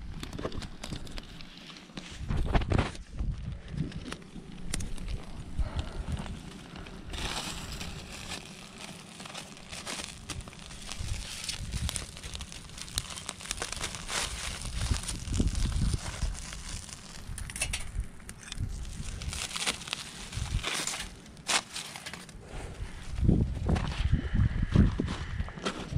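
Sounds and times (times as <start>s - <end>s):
bonfire crackling and popping: 0.0s - 22.5s.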